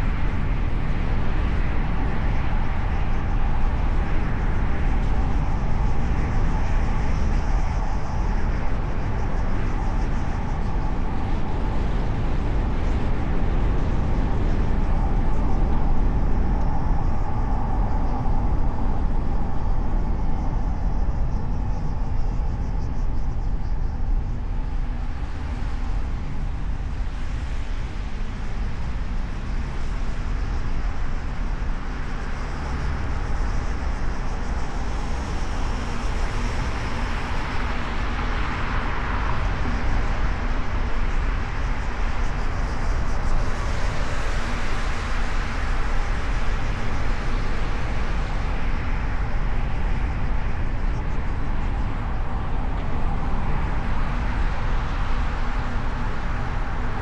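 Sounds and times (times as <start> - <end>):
car road and engine noise: 10.4 - 57.0.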